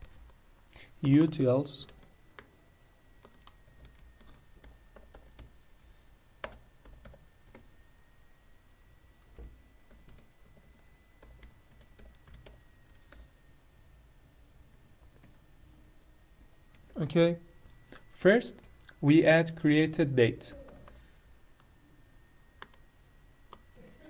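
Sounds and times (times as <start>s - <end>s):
faint high-pitched whine: 0.0s - 24.0s.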